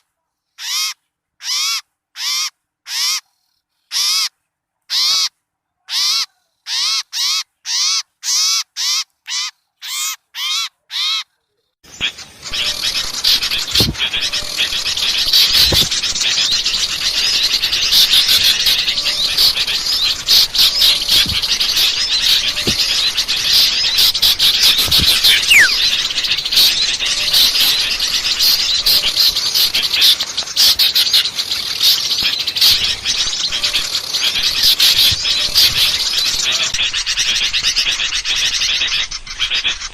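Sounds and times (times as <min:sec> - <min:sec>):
small birds chirping chorus: 0:00.0 - 0:39.9
harsh bird calls: 0:05.9 - 0:39.9.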